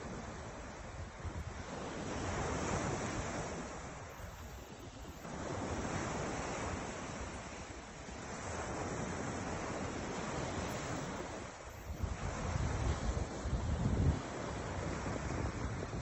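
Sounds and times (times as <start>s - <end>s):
ocean waves washing in: 0.0s - 16.0s
wind rumbling on microphone: 0.0s - 16.0s.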